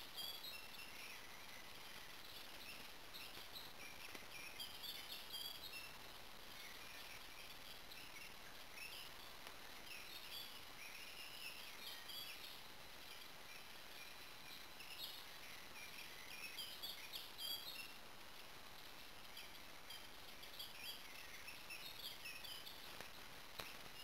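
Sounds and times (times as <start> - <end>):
songbirds chirping and singing: 0.0 - 18.1, 18.7 - 24.0
steady background hiss: 0.0 - 24.0.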